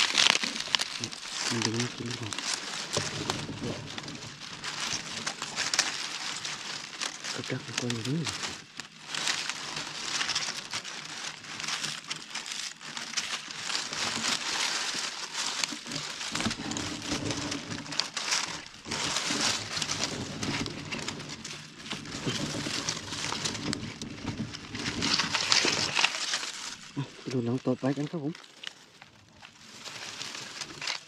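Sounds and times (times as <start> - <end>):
dry grass rustling and crackling: 0.0 - 31.0.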